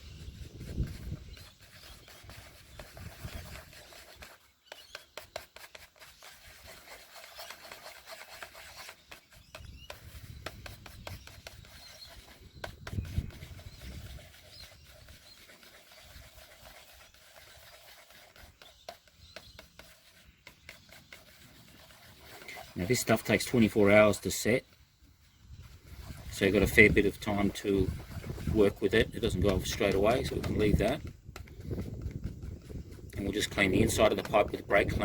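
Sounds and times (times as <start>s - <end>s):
epoxy scraping during hand mixing: 0.0s - 35.0s.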